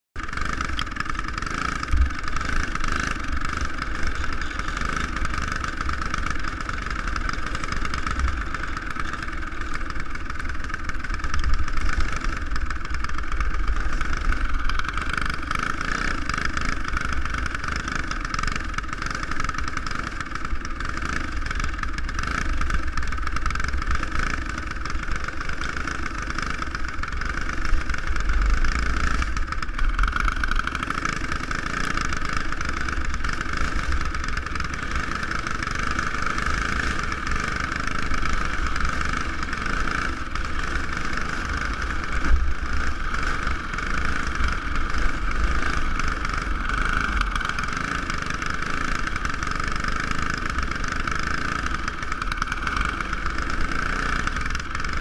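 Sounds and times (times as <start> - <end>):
kart engine running hard: 0.2 - 55.0.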